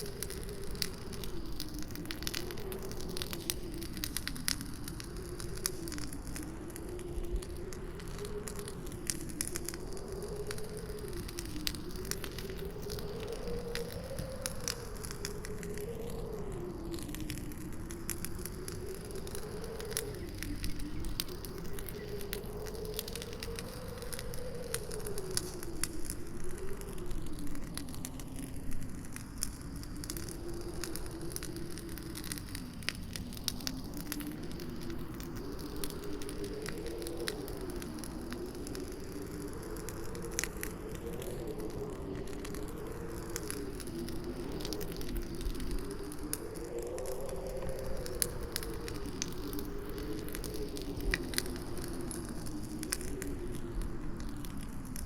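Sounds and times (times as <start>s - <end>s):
campfire crackling and popping: 0.0s - 55.0s
howling wind: 0.0s - 55.0s.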